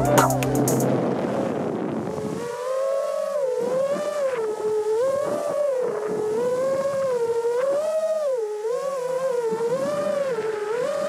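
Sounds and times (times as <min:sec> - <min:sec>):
drone motors whining: 0:02.1 - 0:11.0.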